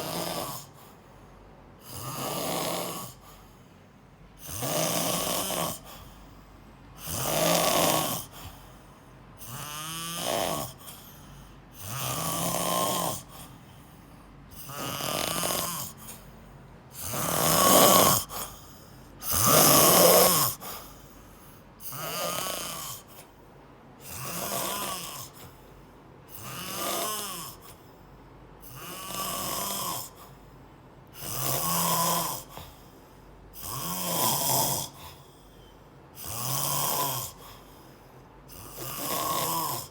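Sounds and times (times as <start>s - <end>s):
person snoring: 0.0s - 1.0s, 1.8s - 3.7s, 4.4s - 6.4s, 7.0s - 23.4s, 24.0s - 28.0s, 28.6s - 39.9s.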